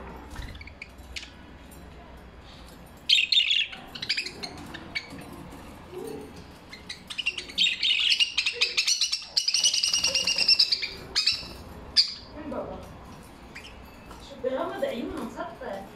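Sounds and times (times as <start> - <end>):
budgerigars chirping and chattering: 0.2 - 15.4.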